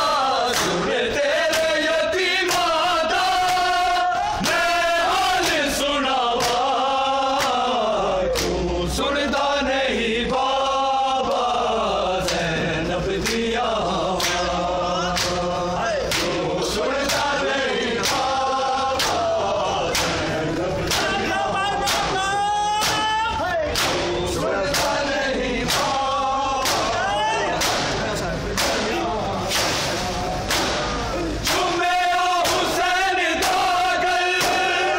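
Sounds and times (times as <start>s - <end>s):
men chanting in unison: 0.0s - 34.9s.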